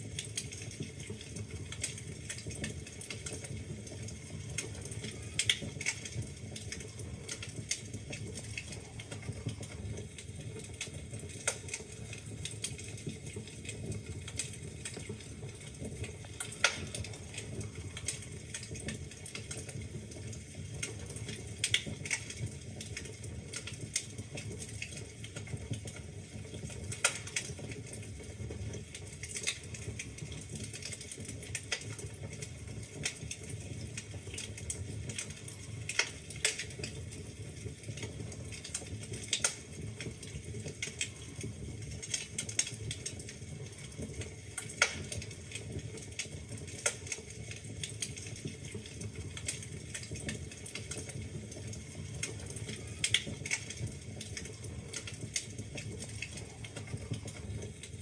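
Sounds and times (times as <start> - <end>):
burning logs popping and snapping: 0.0 - 58.0
low rumble of flames: 0.0 - 58.0.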